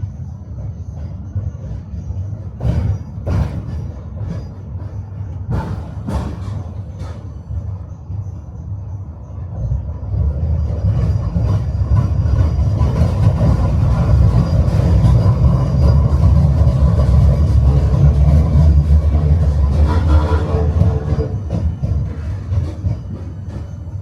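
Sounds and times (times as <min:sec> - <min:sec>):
tram rumbling on rails: 0:00.0 - 0:24.0.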